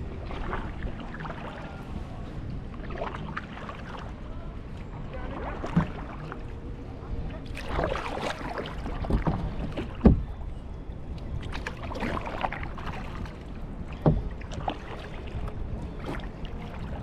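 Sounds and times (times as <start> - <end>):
paddle splashing water: 0.0 - 17.0.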